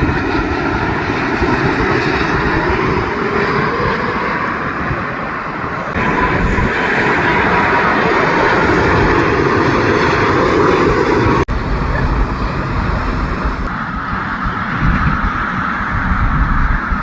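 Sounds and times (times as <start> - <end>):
airplane engines roaring: 0.0 - 17.0.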